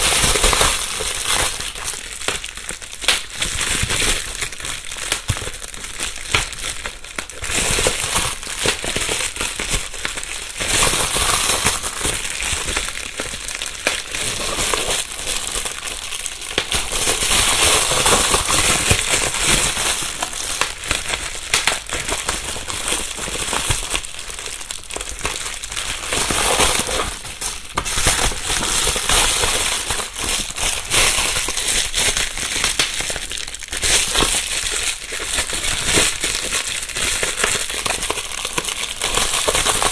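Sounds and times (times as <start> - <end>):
bubble wrap popping: 0.0 - 39.9
bubble wrap rustling: 0.0 - 39.9.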